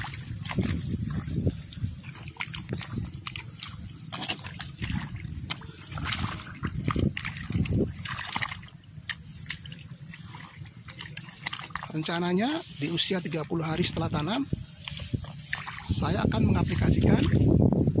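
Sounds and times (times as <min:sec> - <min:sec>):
footsteps squelching in mud and water: 0:00.0 - 0:17.8.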